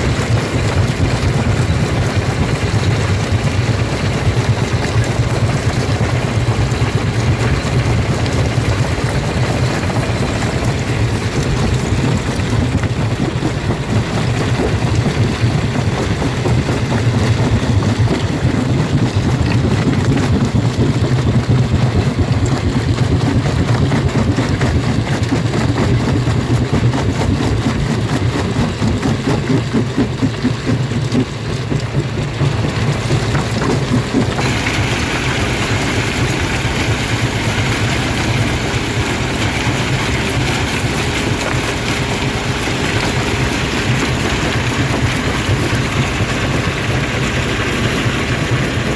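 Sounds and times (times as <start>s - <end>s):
rock crusher droning and clattering: 0.0s - 48.9s.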